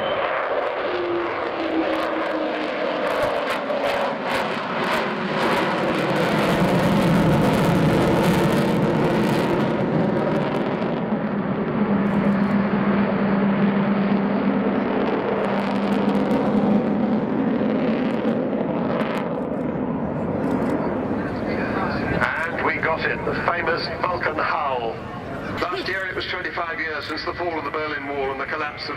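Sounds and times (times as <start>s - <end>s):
steady low drone: 0.0s - 26.7s
jet engines at high power: 0.0s - 28.9s.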